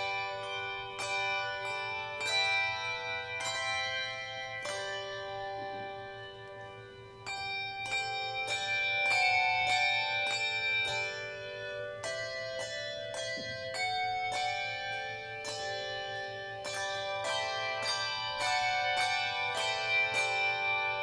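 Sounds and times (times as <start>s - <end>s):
handbell choir ringing chords: 0.0s - 21.0s.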